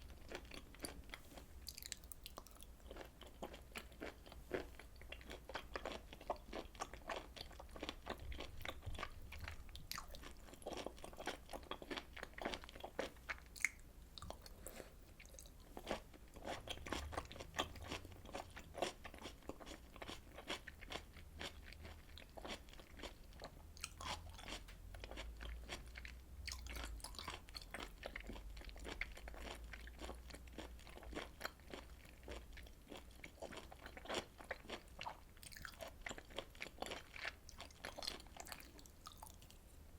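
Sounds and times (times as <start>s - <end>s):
chewing and biting food: 0.1s - 39.6s.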